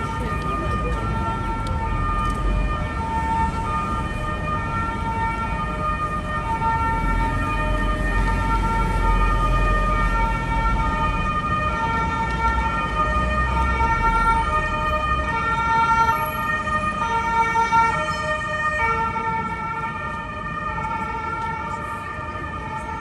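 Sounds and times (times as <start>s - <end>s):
two-tone emergency siren: 0.0s - 23.0s.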